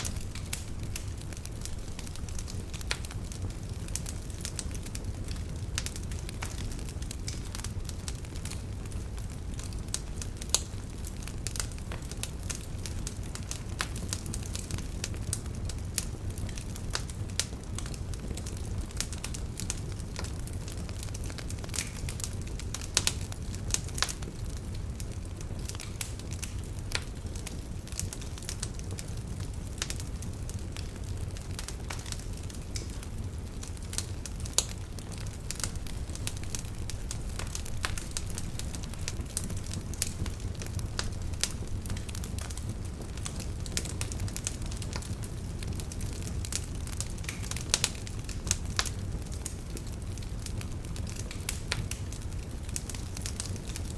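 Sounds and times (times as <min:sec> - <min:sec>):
logs crackling and popping: 0:00.0 - 0:53.9
low rumble of flames: 0:00.0 - 0:53.9.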